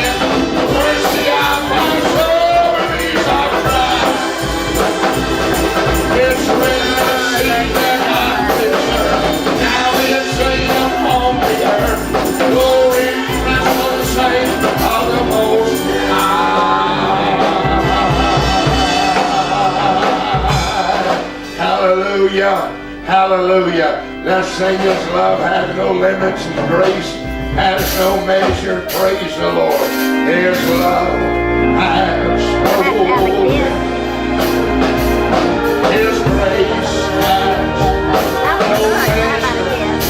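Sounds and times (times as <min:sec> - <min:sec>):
live gospel music: 0:00.0 - 0:40.0.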